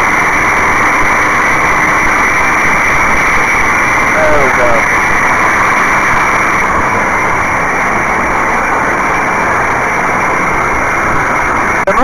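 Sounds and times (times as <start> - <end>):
propeller plane engine droning: 0.0 - 12.0
slipstream rush: 0.0 - 12.0.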